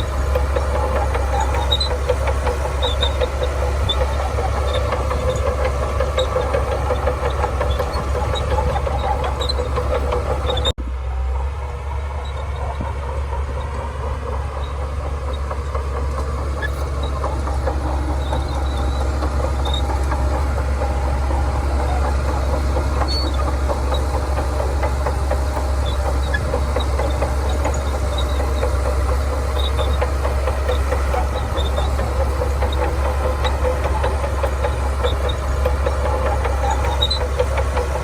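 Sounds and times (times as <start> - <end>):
tracks clattering: 0.0 - 10.8, 11.8 - 38.0
bulldozer diesel engine: 0.0 - 38.0.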